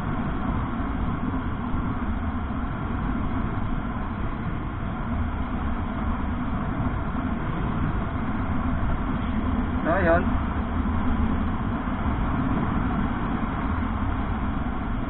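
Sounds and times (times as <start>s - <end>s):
road noise: 0.0s - 15.0s
wind noise: 0.0s - 15.0s.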